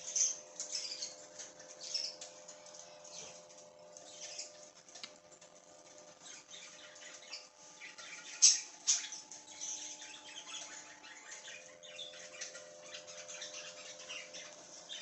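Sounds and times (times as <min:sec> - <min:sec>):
budgerigars chirping and chattering: 0:00.0 - 0:02.4, 0:03.0 - 0:03.4, 0:04.0 - 0:04.7, 0:06.2 - 0:15.0.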